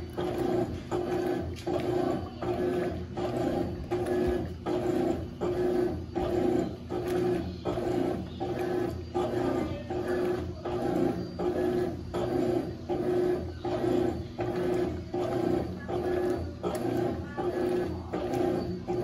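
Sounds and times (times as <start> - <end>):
washing machine agitating: 0.0 - 19.0.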